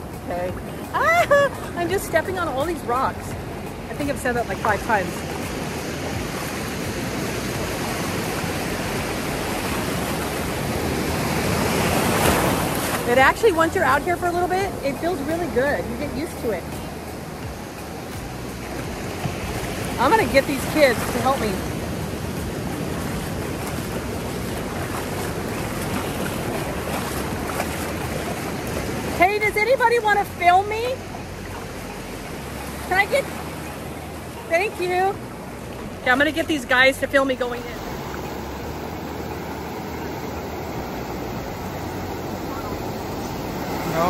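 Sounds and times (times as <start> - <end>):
ocean surf washing: 0.0 - 44.0
wind rumbling on microphone: 0.0 - 44.0.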